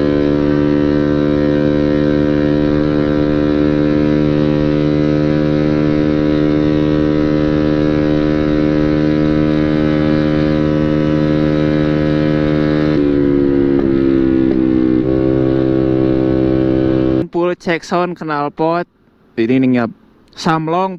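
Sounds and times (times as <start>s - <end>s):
motorcycle engine droning: 0.0s - 20.4s.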